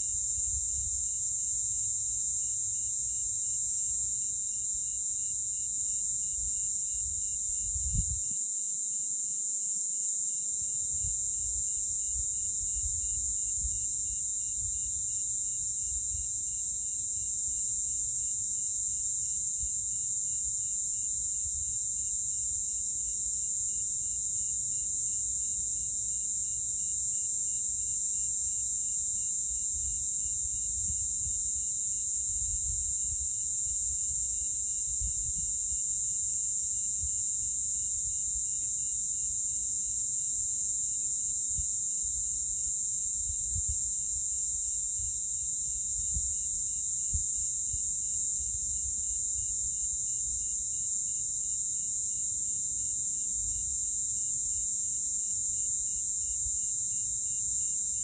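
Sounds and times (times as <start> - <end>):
cicadas buzzing: 0.0 - 8.4, 10.9 - 19.6, 22.0 - 58.0.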